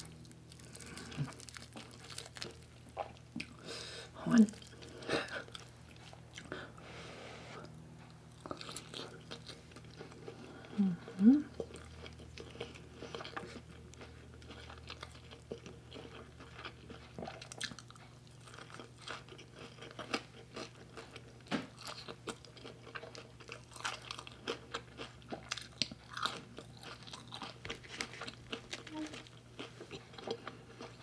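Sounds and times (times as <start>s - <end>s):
person chewing: 0.0s - 6.7s, 7.5s - 31.0s.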